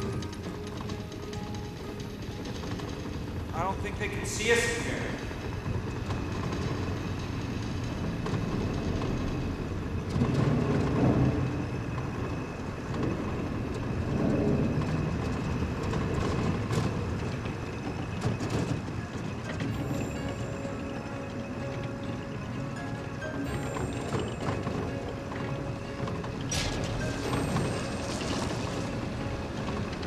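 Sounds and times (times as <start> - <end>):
car rumbling along railroad track: 0.0 - 30.0.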